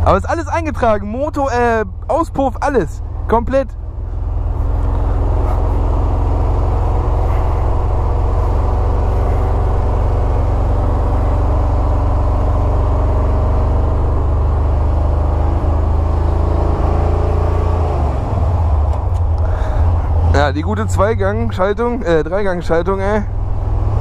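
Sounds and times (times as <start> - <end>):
engine exhaust rumble: 0.0 - 24.0.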